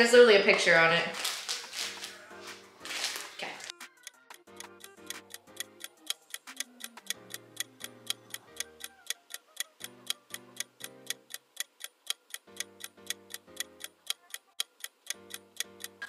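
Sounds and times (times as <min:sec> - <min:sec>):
background music ticking beat: 0:01.6 - 0:16.0.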